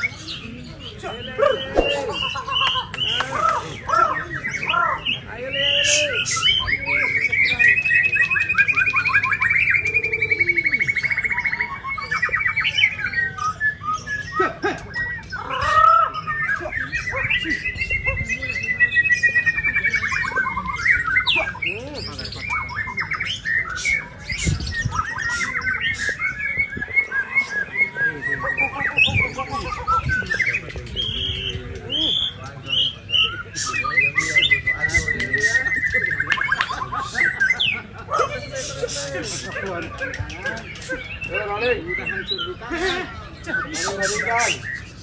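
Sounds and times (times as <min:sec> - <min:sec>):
songbirds singing trills and whistles: 0:00.0 - 0:45.0.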